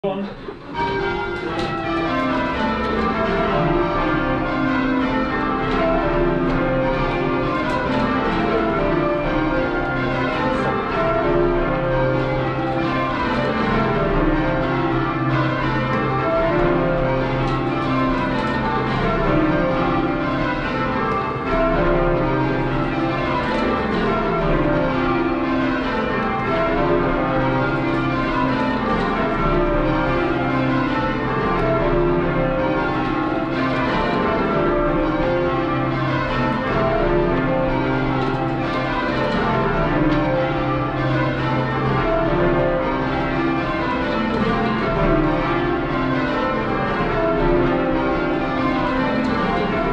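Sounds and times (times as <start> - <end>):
church bells ringing rounds: 0.0 - 49.9.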